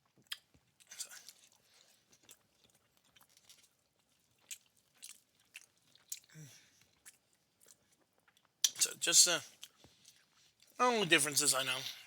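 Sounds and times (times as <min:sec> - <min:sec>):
chewing and mouth clicks: 0:00.1 - 0:08.9, 0:09.5 - 0:10.8.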